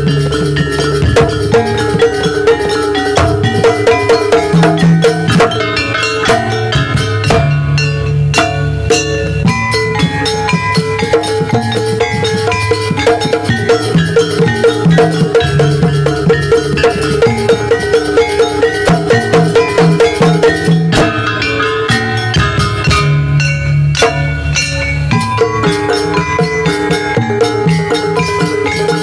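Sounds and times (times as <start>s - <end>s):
drums: 0.0s - 29.0s
steady low tones: 0.0s - 29.0s
struck metal percussion: 0.0s - 29.0s.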